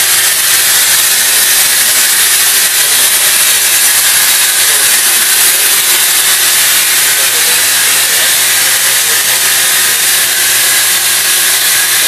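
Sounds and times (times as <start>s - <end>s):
loud steady hiss: 0.0s - 12.0s.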